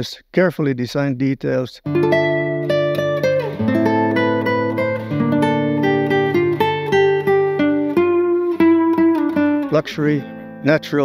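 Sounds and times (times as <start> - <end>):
acoustic guitar picking a melody: 1.8 - 11.0.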